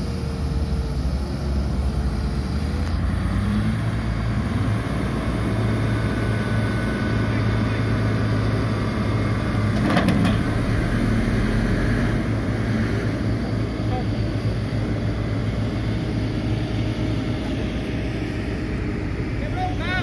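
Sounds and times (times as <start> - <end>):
heavy diesel tractor engines: 0.0 - 20.0.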